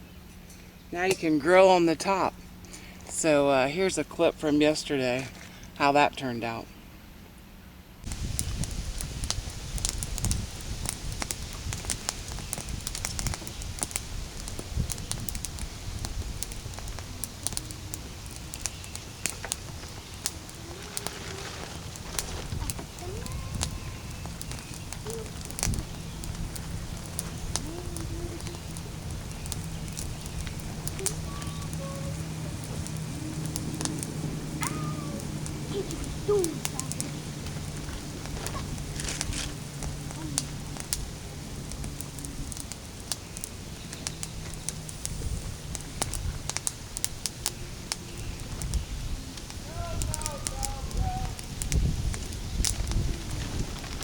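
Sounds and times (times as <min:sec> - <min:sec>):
steady low hum: 0:00.0 - 0:48.0
fire low rumble: 0:00.0 - 0:54.0
wood fire crackling and popping: 0:08.0 - 0:54.0.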